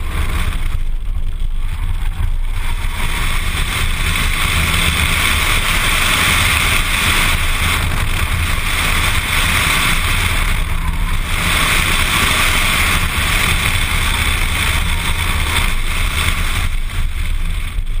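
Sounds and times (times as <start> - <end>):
car engine pulling hard: 0.0 - 18.0
wind rushing over camera: 0.0 - 18.0.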